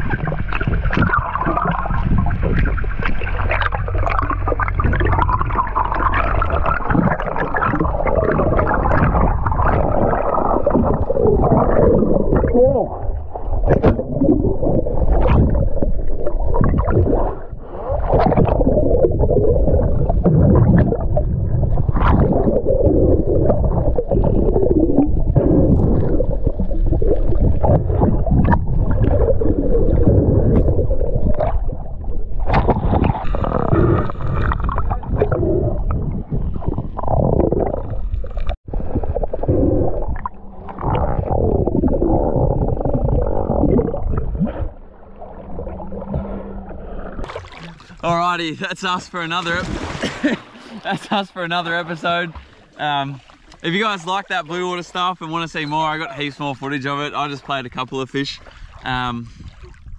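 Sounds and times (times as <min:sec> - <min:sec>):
underwater rushing and gurgling: 0:00.0 - 0:59.9.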